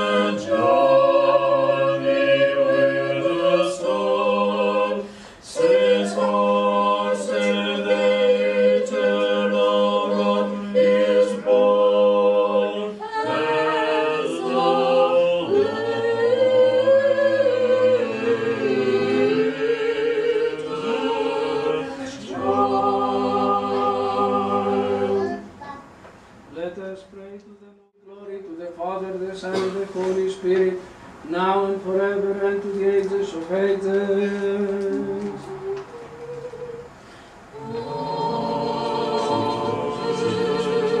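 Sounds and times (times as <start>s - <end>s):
choir singing a cappella chant: 0.0s - 25.7s, 27.6s - 41.0s.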